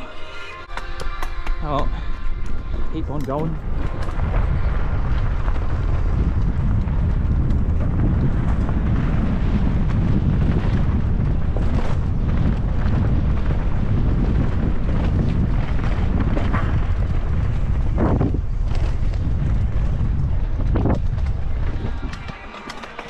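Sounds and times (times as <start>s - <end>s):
tyre rumble: 0.7s - 23.0s
bike rattling over rocks: 1.1s - 23.0s
wind buffeting microphone: 1.1s - 23.0s.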